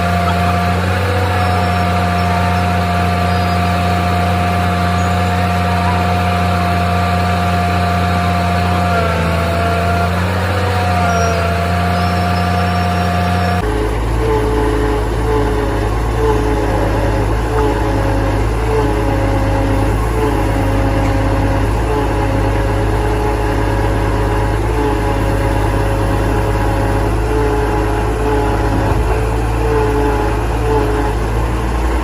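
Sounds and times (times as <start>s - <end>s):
factory machinery hum and whine: 0.0s - 32.0s
machine deep hum: 0.0s - 32.0s.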